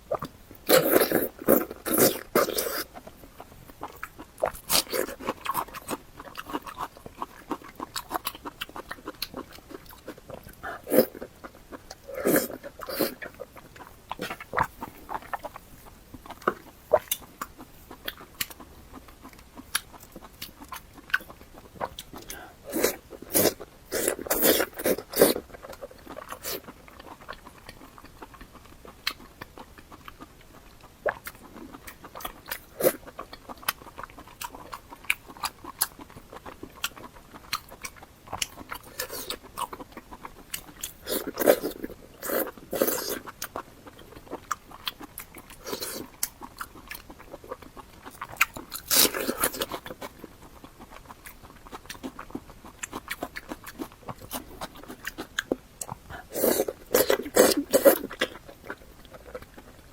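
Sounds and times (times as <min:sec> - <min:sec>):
chewing with wet mouth clicks: 0:00.1 - 0:59.9.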